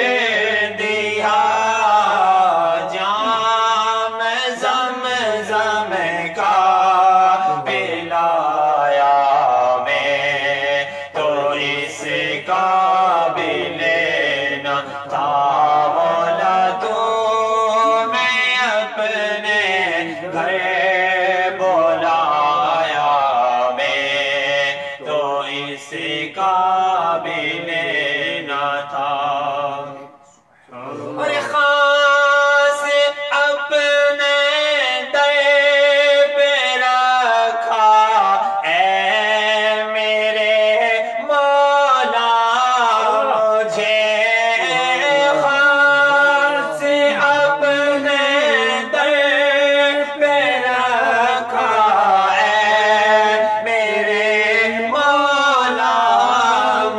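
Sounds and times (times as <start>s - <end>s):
man singing unaccompanied: 0.0s - 56.9s.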